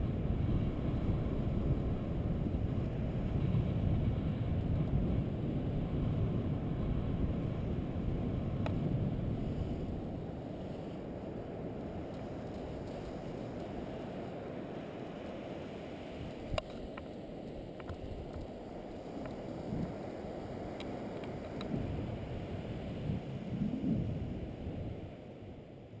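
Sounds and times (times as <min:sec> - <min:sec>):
wind buffeting microphone: 0:00.0 - 0:25.7.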